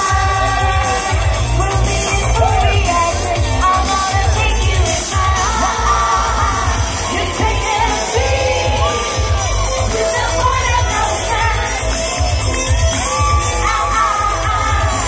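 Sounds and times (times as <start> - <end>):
women's vocal group singing: 0.0 - 12.2, 13.6 - 15.0
amplified music with pulsing bass: 0.0 - 15.0.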